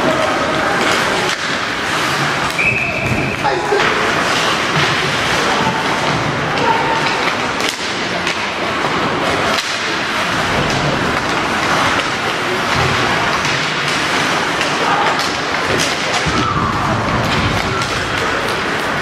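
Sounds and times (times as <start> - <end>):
crowd noise: 0.0 - 19.0
skates on ice: 0.0 - 19.0
sticks and puck knocking boards: 0.3 - 19.0.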